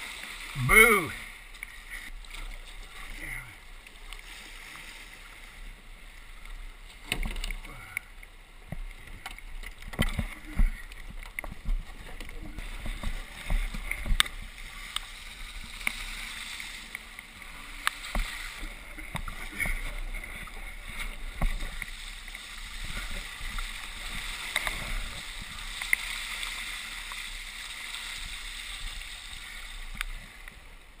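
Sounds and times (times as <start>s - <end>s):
rushing tidal water: 0.0s - 31.0s.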